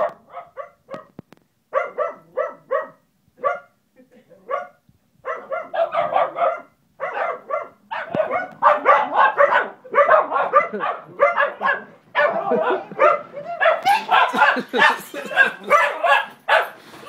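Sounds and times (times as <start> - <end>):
puppies barking: 0.0 - 3.6, 5.3 - 16.8.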